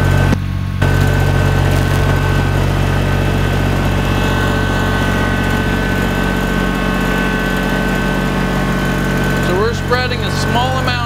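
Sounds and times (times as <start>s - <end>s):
high whine: 0.0s - 11.0s
tractor diesel engine running: 0.0s - 11.0s.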